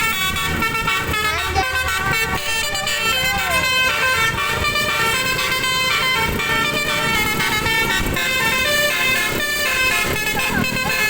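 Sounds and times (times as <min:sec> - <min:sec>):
multi-tone musical air horn: 0:00.0 - 0:11.0
vehicle rumble: 0:00.0 - 0:11.0.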